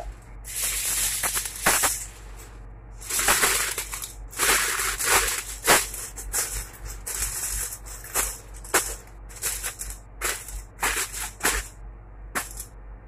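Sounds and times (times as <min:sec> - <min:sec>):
aluminium foil crinkling: 0:00.0 - 0:02.4, 0:03.0 - 0:11.8.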